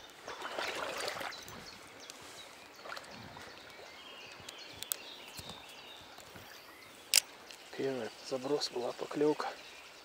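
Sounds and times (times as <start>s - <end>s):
river running: 0.0s - 10.0s.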